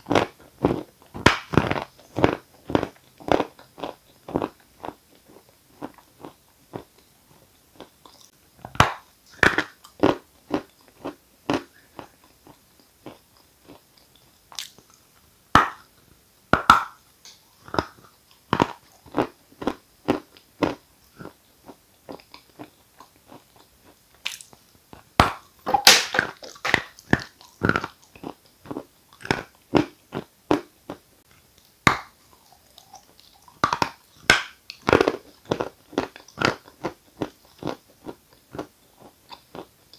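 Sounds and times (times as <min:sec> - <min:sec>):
chewing: 0:00.0 - 0:15.2, 0:17.6 - 0:39.8.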